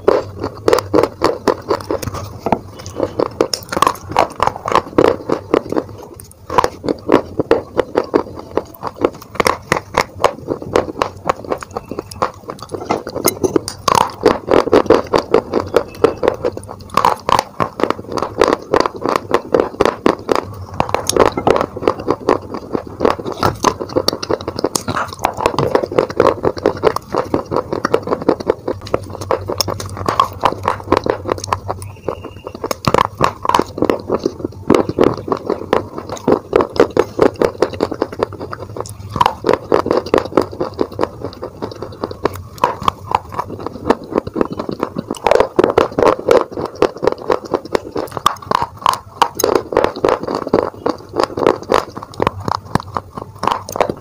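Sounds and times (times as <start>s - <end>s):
chewing brittle clay pieces: 0.0s - 54.0s.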